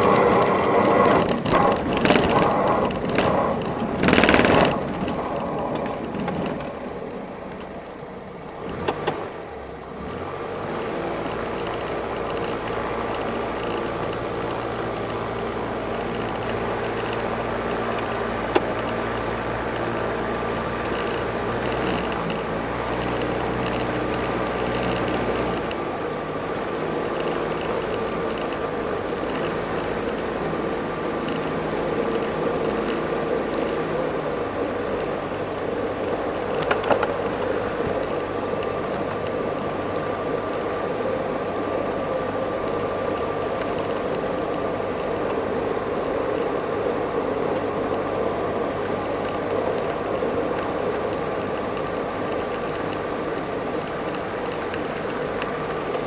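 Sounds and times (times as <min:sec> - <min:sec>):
light aircraft engine idling: 0:00.0 - 0:10.0, 0:10.9 - 0:56.0.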